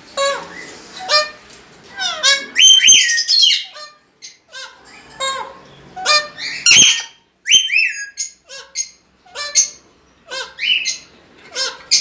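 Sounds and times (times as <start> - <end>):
parakeets squawking and whistling: 0.2 - 12.0.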